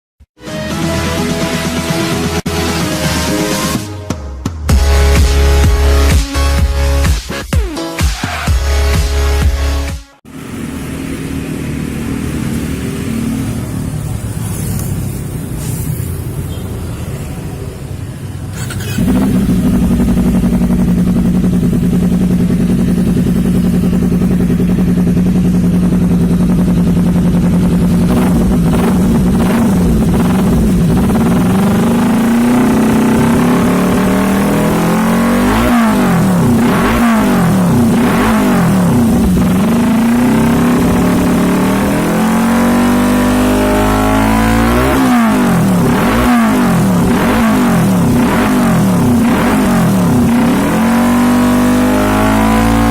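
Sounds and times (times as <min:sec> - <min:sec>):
motorcycle engine idling and revving: 0:00.9 - 0:52.9.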